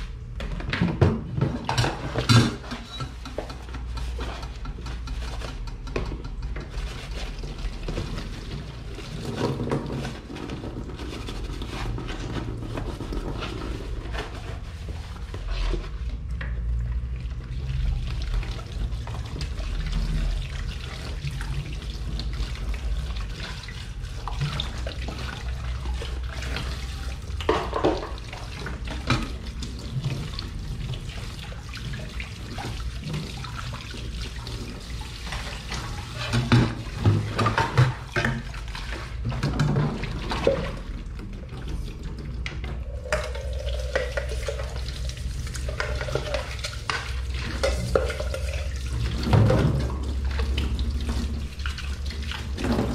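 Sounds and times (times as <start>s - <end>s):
tap water running into sink: 0.4s - 52.9s
water splashing: 6.6s - 52.9s.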